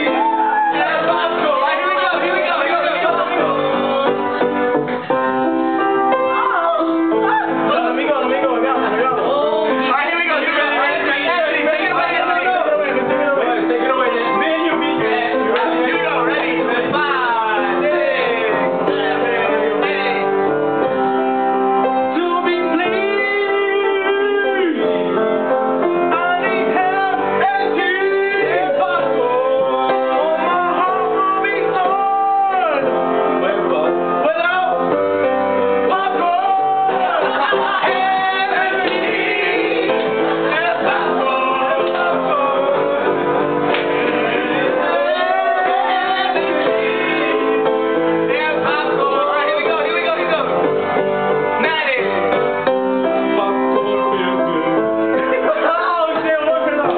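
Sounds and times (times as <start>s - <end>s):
instrumental backing: 0.0s - 56.9s
voices singing: 0.0s - 56.9s.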